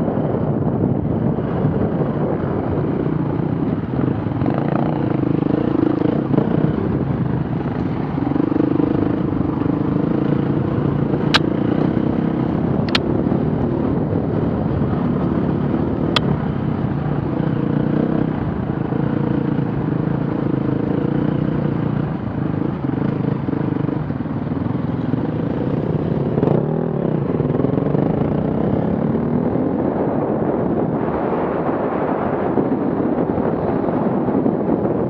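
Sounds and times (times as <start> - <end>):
off-road vehicle engine running: 0.0 - 35.0.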